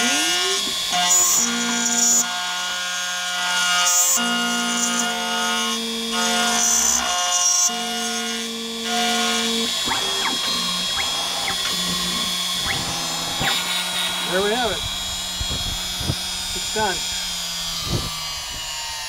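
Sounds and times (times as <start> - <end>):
machine motors whining: 0.0 - 19.0.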